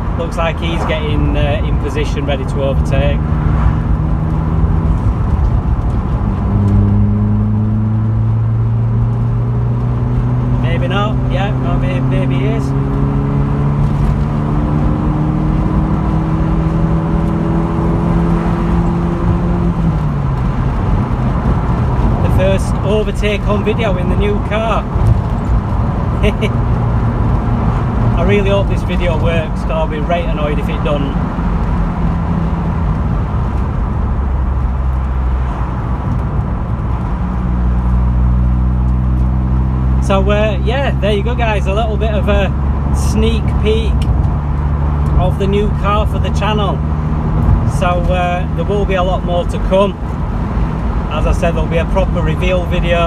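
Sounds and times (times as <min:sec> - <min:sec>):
car engine pulling: 0:00.0 - 0:53.0
road and tyre noise: 0:00.0 - 0:53.0.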